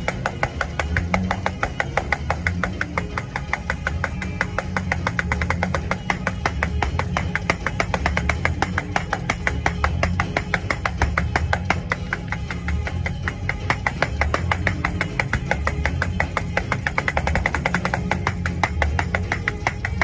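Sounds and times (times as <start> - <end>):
rapid drum kit beat: 0.0 - 20.0.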